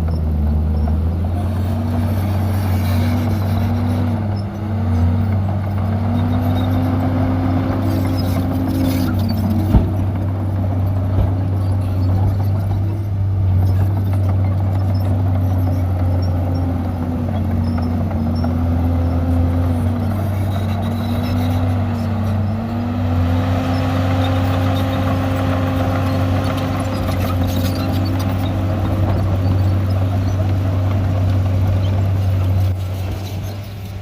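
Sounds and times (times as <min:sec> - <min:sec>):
heavy diesel engine under load: 0:00.0 - 0:34.0.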